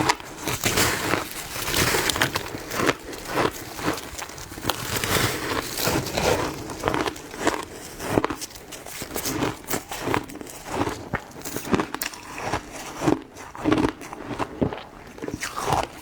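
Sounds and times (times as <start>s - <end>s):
ice being chewed: 0.0s - 16.0s.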